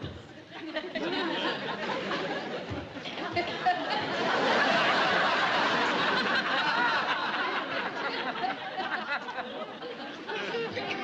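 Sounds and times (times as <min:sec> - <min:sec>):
audience laughing: 0:00.6 - 0:11.0.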